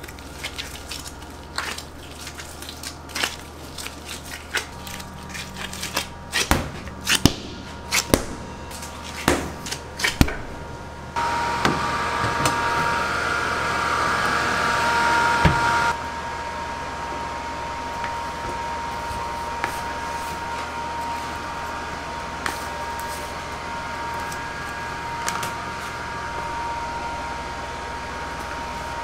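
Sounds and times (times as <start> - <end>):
whirring hum with faint whine: 0.0 - 29.0.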